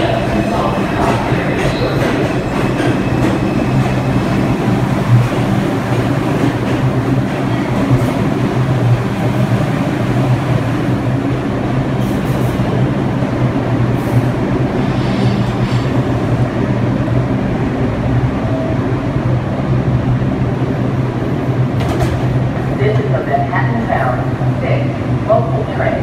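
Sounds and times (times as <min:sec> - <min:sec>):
subway train rolling to a stop: 0:00.0 - 0:26.0
train low hum: 0:00.0 - 0:26.0.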